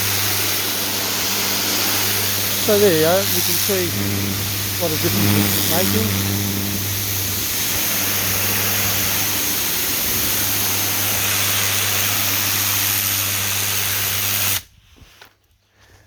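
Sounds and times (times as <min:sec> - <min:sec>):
motor hum: 0:00.0 - 0:14.6
pressure washer jet hissing on stone: 0:00.0 - 0:14.7.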